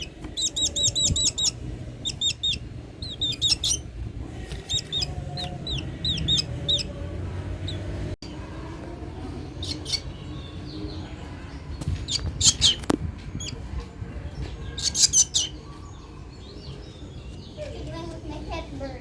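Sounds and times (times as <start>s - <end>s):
young bird chirping: 0.0s - 8.4s, 9.4s - 18.7s.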